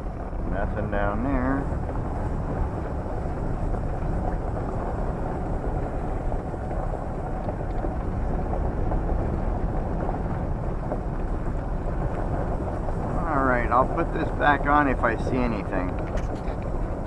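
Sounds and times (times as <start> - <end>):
road and engine rumble in van: 0.0 - 17.0
wind: 0.0 - 17.0.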